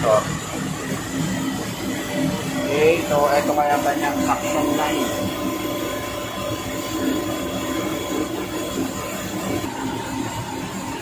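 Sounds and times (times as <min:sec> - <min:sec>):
air conditioner compressor drone: 0:00.0 - 0:11.0.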